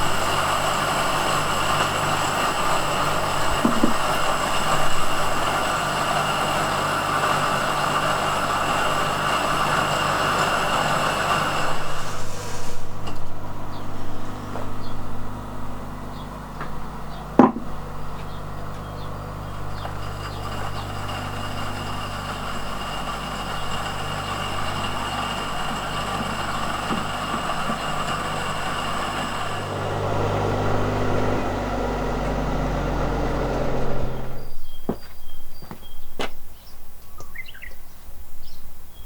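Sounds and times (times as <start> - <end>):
motor humming: 0.0 - 36.3.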